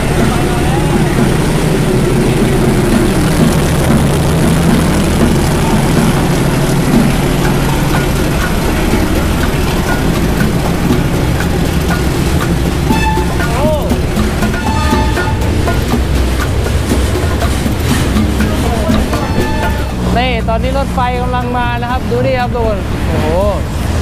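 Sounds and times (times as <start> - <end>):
train rumbling past on rails: 0.0 - 24.0.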